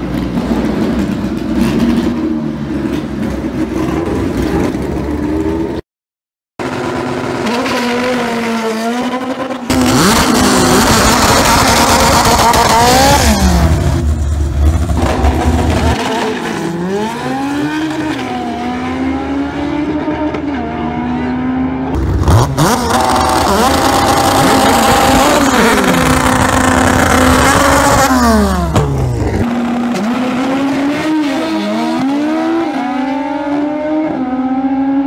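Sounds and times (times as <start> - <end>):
race car engines revving: 0.0 - 5.8, 6.6 - 35.0.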